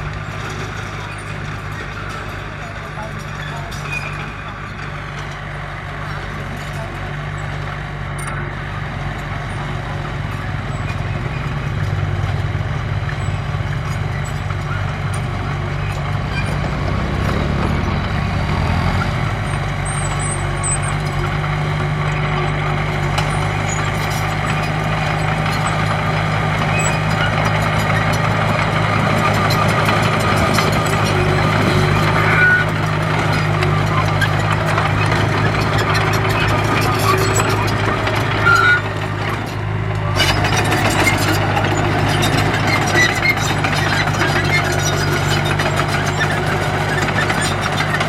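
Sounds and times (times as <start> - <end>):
bulldozer diesel engine running: 0.0 - 48.0.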